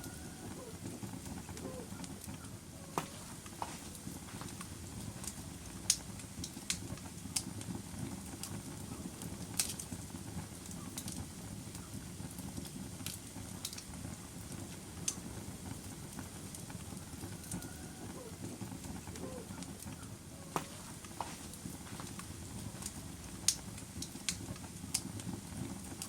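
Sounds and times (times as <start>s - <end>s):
fire crackling and popping: 0.0s - 26.0s
flame rushing: 0.0s - 26.0s.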